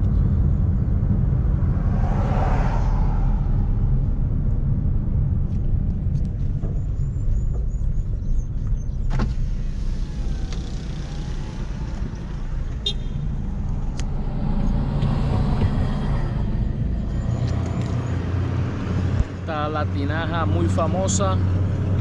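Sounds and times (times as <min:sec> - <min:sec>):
car engine and tyres rumbling: 0:00.0 - 0:22.0
outside air noise: 0:00.0 - 0:22.0.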